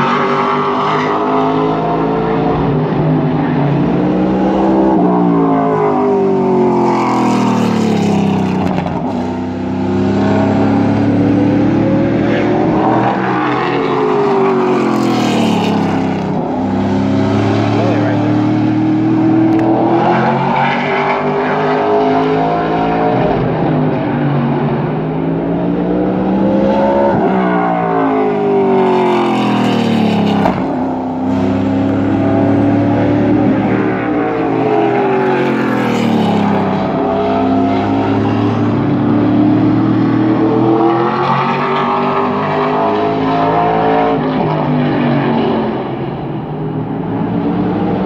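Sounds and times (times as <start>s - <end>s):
race car engine: 0.0s - 48.0s.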